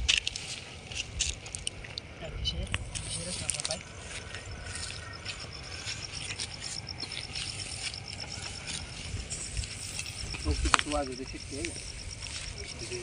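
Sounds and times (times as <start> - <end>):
rustling and scraping: 0.0 - 2.0, 2.7 - 13.0
insect chirping: 0.0 - 13.0.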